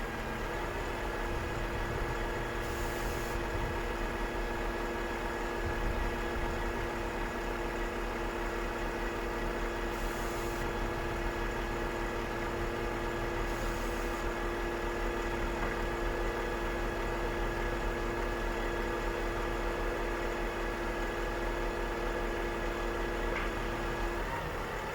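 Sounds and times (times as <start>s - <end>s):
diesel truck idling: 0.0s - 24.9s.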